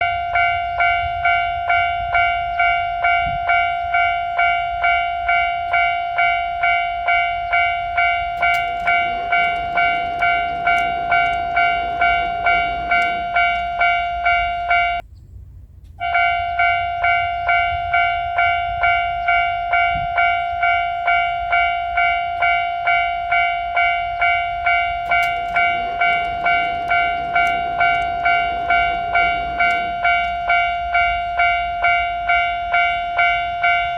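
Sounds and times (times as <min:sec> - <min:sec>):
level-crossing alarm bell ringing: 0:00.0 - 0:15.0, 0:16.0 - 0:33.9
train wheel clicks: 0:00.0 - 0:15.1, 0:15.8 - 0:33.9
passing train rumble: 0:00.0 - 0:33.9.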